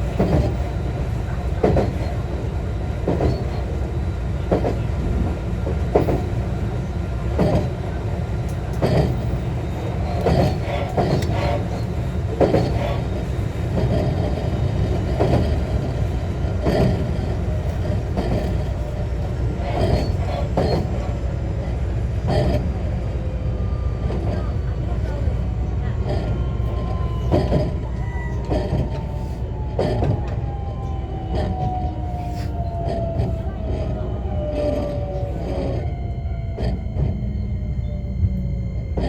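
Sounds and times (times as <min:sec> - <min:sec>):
rail joints clacking: 0:00.0 - 0:39.0
train wheels rumbling on rail: 0:00.0 - 0:39.0.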